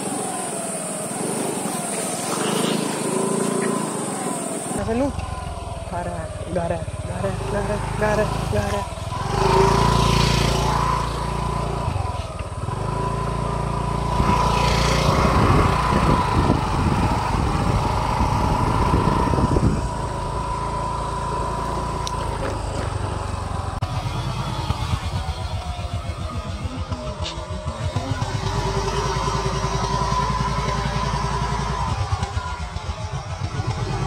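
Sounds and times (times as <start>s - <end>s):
scooter engine running: 0.0s - 34.0s.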